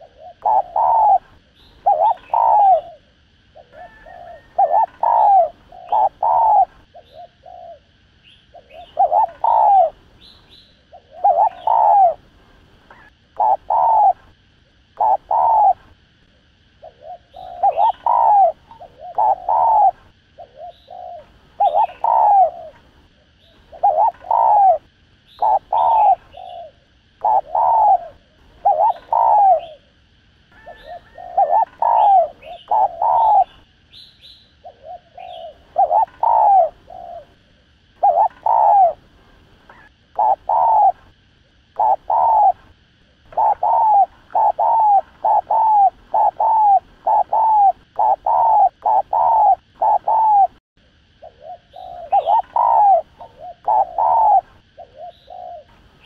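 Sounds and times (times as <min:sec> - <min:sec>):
dove cooing: 0:00.0 - 0:29.9, 0:30.5 - 0:56.0.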